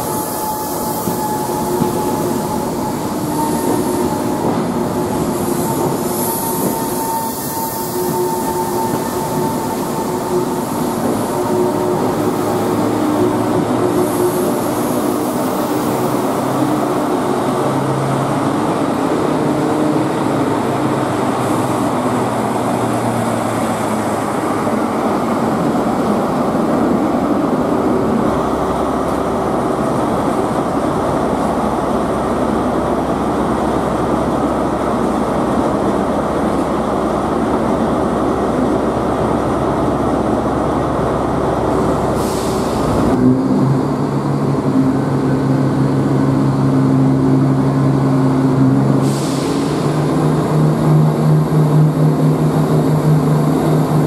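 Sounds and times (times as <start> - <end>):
diesel train engines droning: 0.0 - 54.0
engine drone with low hum: 0.9 - 54.0.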